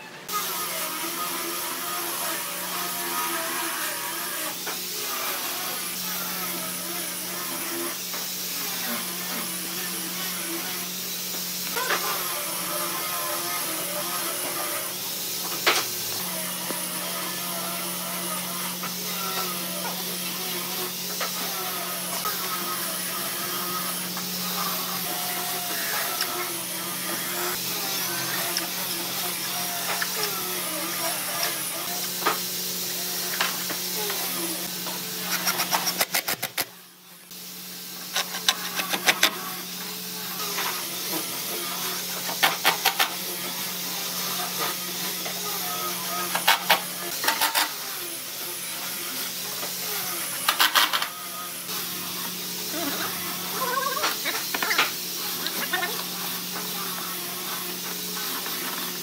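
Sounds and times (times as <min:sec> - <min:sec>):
workshop hum: 0:00.0 - 0:59.0.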